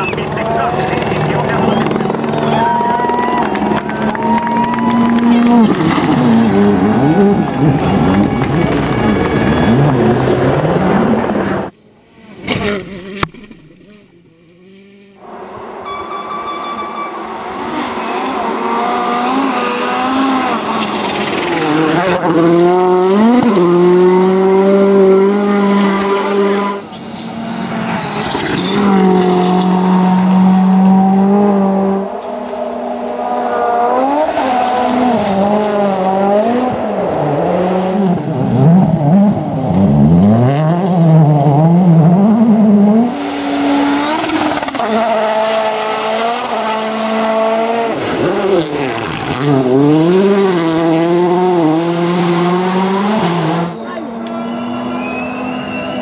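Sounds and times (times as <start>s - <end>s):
rally car engines revving: 0.0s - 15.8s, 16.5s - 56.0s.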